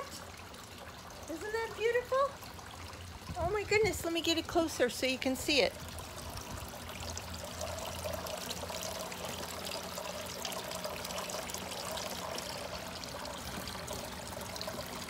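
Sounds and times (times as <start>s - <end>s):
fountain water trickling: 0.0s - 15.0s.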